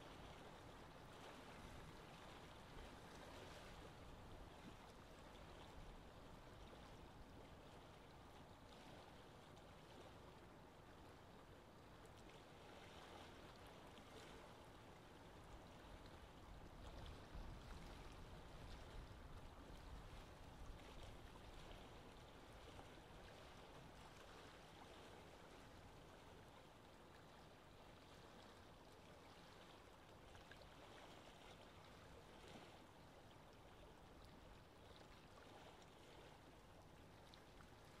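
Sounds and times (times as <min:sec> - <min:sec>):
soft moving water: 0:00.0 - 0:38.0.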